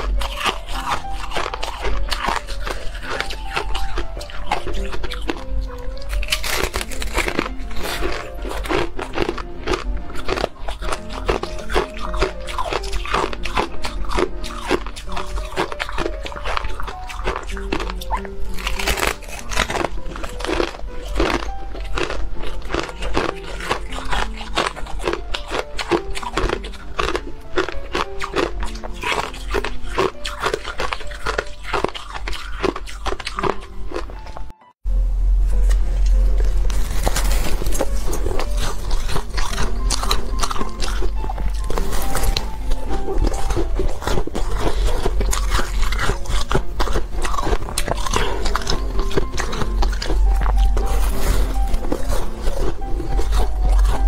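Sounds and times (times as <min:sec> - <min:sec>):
ice being crunched in mouth: 0:00.0 - 0:34.4, 0:36.7 - 0:54.0
background music: 0:00.0 - 0:54.0.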